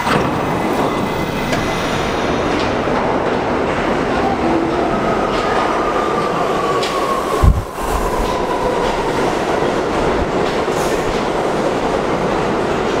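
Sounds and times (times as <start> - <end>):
train rumble with wheel clatter: 0.0 - 13.0.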